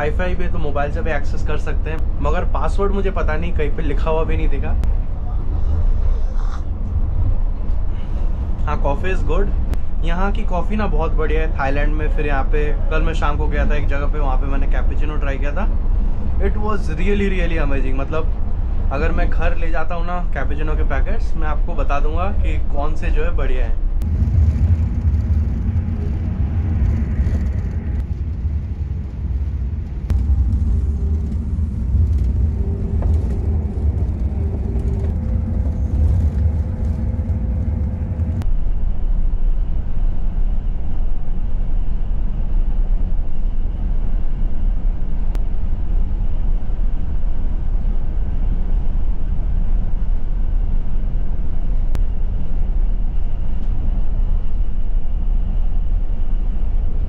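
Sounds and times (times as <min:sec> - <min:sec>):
bus engine and road rumble: 0:00.0 - 0:57.0
road and wind noise: 0:00.0 - 0:57.0.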